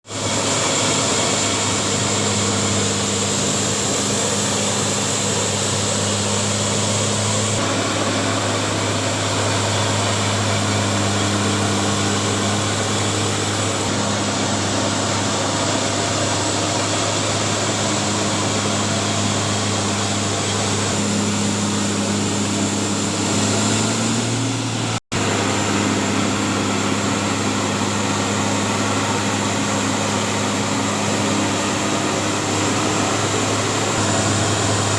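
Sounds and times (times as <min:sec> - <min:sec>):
milling machinery humming: 0:00.1 - 0:34.9.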